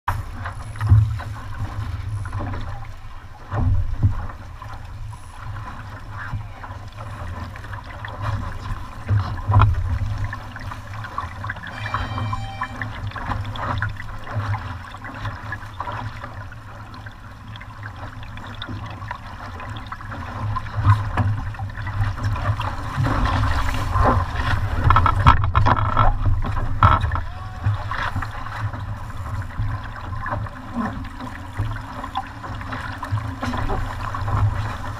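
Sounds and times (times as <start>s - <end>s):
water slapping against boat hull: 0.1s - 11.5s, 14.2s - 34.9s.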